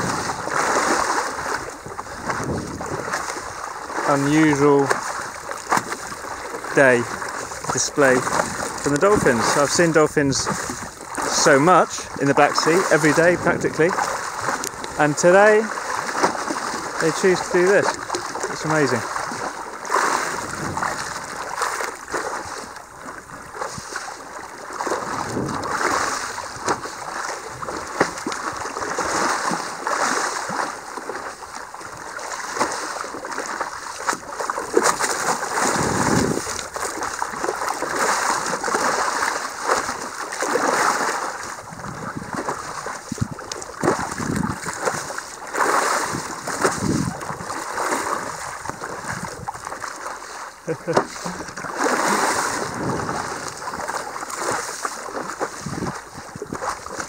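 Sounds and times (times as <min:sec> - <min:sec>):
water lapping against board: 0:00.0 - 0:57.0.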